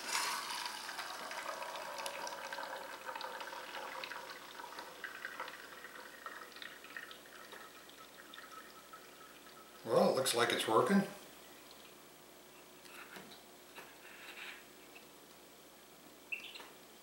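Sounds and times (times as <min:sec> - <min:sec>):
coffee running and dripping: 0:00.0 - 0:15.5.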